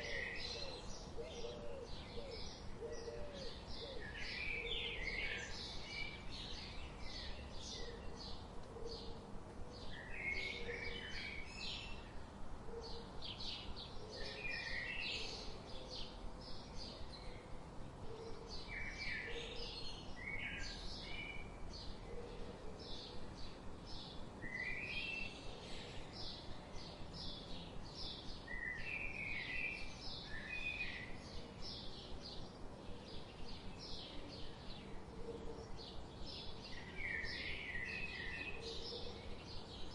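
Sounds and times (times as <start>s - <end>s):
low background hiss: 0.0s - 39.9s
songbirds chirping: 0.0s - 39.9s.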